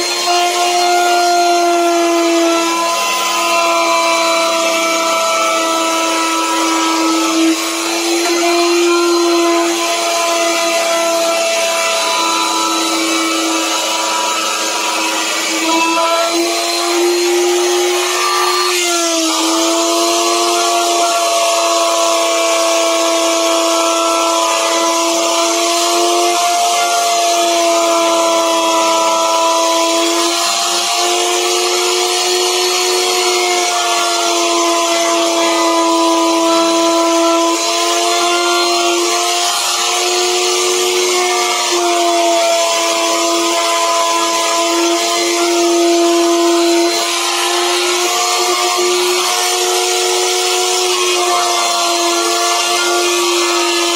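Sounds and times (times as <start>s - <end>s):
electric router whining: 0.0s - 53.9s
router bit cutting wood: 0.0s - 53.9s.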